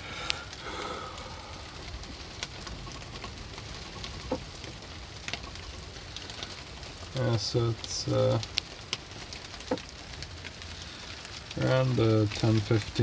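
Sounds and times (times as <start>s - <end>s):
rain and sleet hissing: 0.0s - 13.0s.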